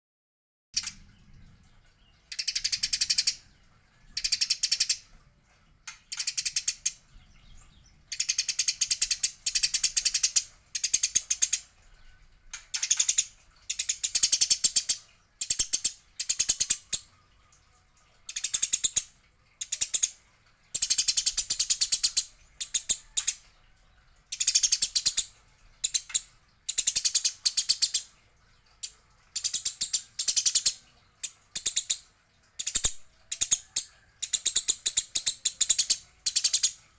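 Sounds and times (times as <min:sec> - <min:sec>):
sparrows chattering: 0:06.0 - 0:36.9.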